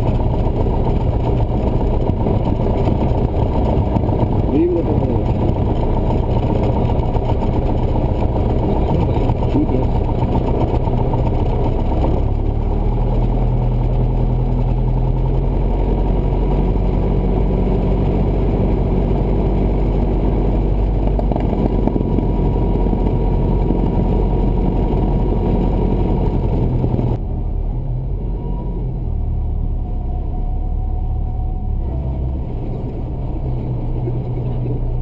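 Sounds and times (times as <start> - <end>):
propeller plane engine running: 0.0 - 29.0, 31.7 - 35.0.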